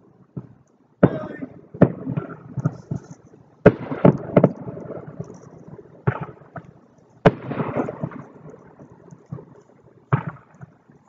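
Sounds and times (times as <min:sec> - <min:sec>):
fireworks bangs echoing: 0:00.0 - 0:10.8.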